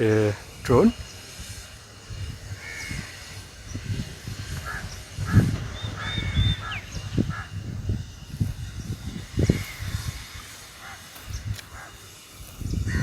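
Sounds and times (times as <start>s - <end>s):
birds calling: 0.0s - 13.0s
wind buffeting microphone: 0.0s - 13.0s.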